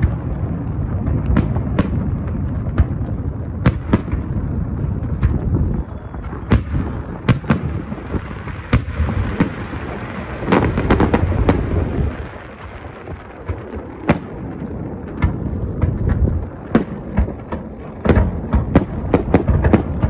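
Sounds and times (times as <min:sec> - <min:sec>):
low rumble: 0:00.0 - 0:09.4, 0:10.8 - 0:20.0
fireworks bursting: 0:00.0 - 0:20.0.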